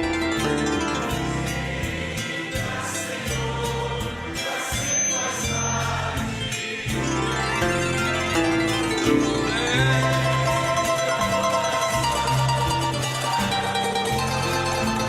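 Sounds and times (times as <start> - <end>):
bass line: 0.0 - 15.0
harp melody: 0.0 - 15.0
choir-like voices: 0.8 - 15.0.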